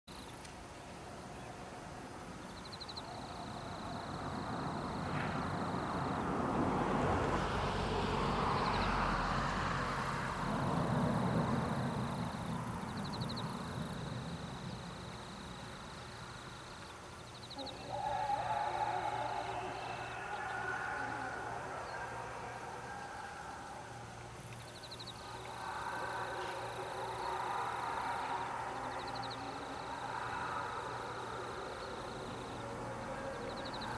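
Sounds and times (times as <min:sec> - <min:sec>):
broad rushing noise: 0:03.0 - 0:33.9.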